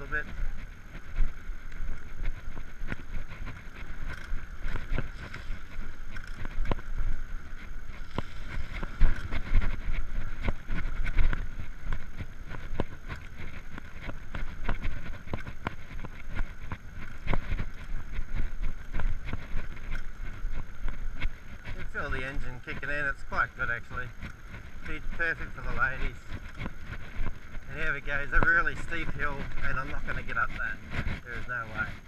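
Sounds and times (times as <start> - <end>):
bicycle clicks and rattles: 0.0 - 32.0
wind and road rumble on microphone: 0.0 - 32.0.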